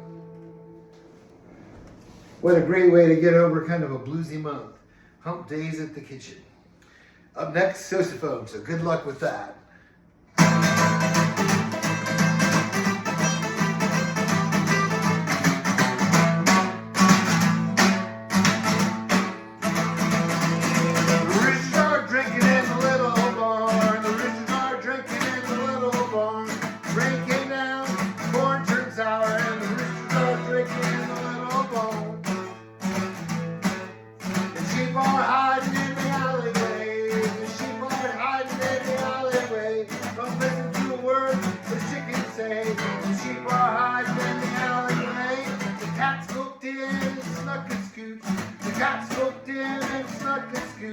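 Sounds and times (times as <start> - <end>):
strummed acoustic guitar: 0.0 - 1.3, 10.4 - 50.9.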